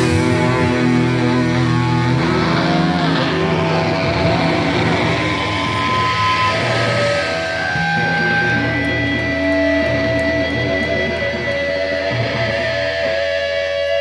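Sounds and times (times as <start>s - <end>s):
rock band playing distorted guitars: 0.0s - 14.0s.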